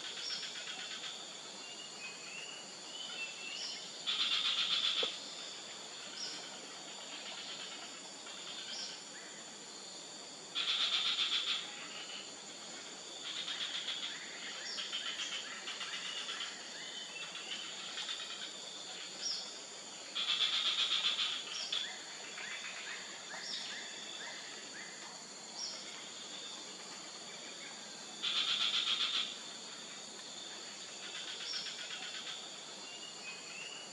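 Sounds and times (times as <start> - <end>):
high insect drone: 0.0 - 33.9.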